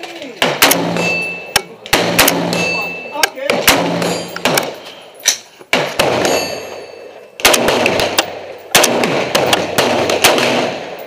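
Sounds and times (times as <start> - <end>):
rifle shots with echo: 0.4 - 11.0.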